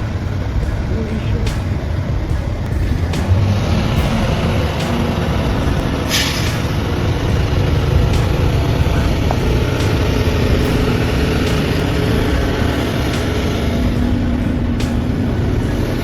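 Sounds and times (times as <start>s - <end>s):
air hiss: 0.0s - 16.0s
truck engine rumbling: 0.0s - 16.0s.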